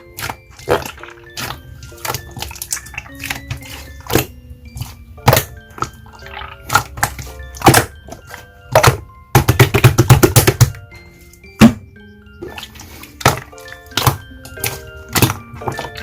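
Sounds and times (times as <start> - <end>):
light background music: 0.0 - 16.0.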